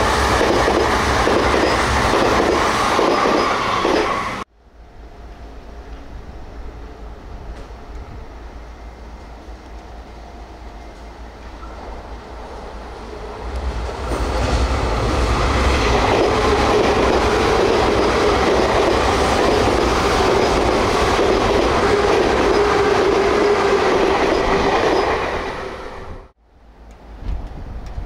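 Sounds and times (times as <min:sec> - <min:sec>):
train wheels rumbling on rails: 0:00.0 - 0:04.5, 0:05.2 - 0:28.0
train hum: 0:00.0 - 0:28.0.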